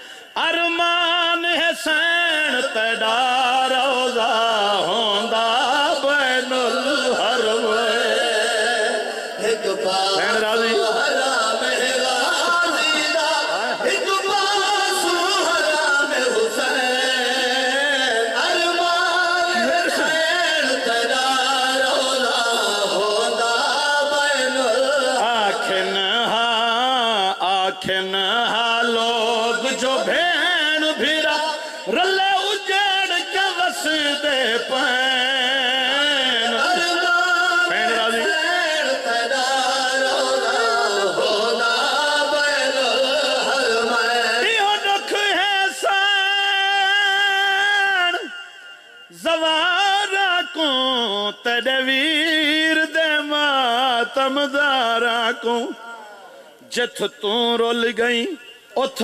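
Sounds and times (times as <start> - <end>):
men singing a lament together: 0.0 - 59.0.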